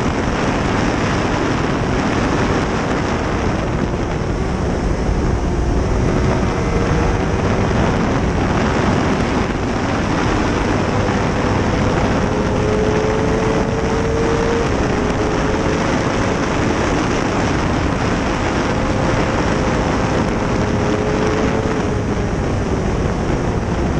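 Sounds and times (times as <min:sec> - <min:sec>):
motorcycle engine running: 0:00.0 - 0:23.9
wind rushing over microphone: 0:00.0 - 0:23.9.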